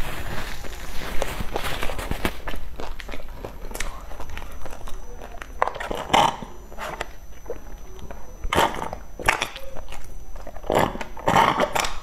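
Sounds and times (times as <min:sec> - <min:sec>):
swallowing: 0:01.5 - 0:12.0.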